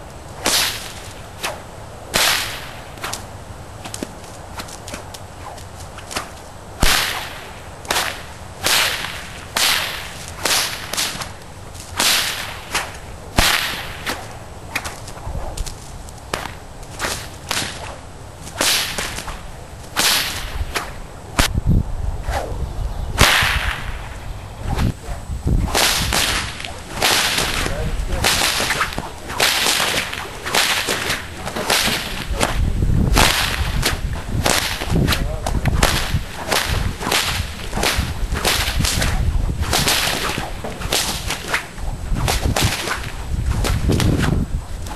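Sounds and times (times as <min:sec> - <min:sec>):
whips cracking: 0:00.4 - 0:21.5, 0:23.2 - 0:44.9.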